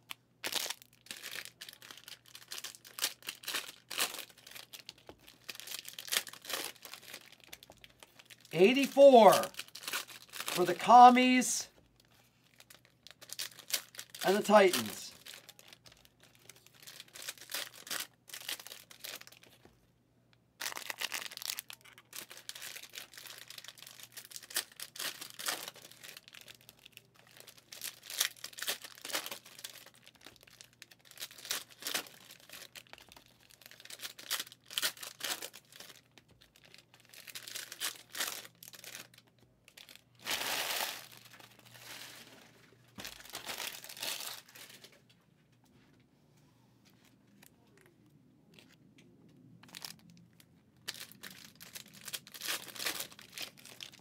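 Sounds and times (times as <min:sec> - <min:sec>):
plastic wrappers crinkling and tearing: 0:00.0 - 0:19.7, 0:20.6 - 0:45.0, 0:49.6 - 0:54.0.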